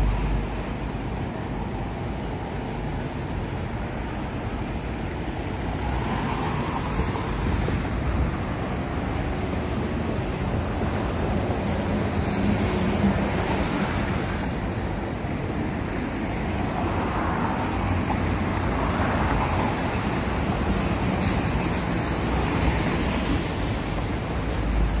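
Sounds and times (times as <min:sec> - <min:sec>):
city road traffic: 0:00.0 - 0:25.0.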